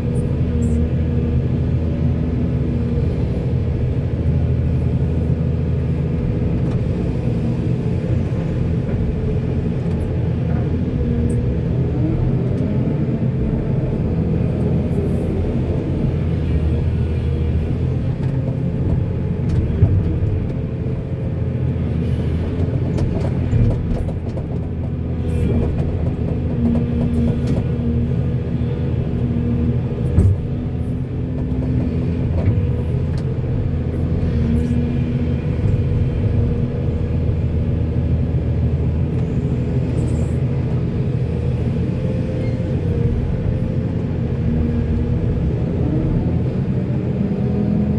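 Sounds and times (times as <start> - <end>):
diesel machinery engine under load: 0.0 - 47.9.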